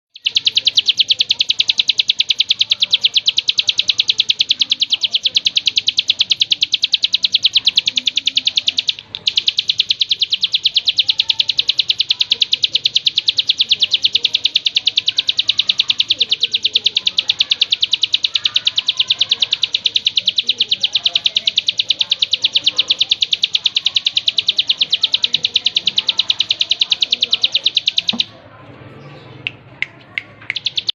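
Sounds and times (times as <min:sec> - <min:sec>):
songbird chirping trill: 0:00.0 - 0:30.9.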